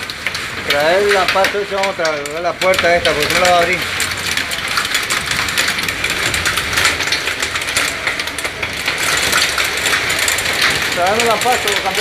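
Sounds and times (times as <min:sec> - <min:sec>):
rapid irregular crackle: 0:00.0 - 0:12.0.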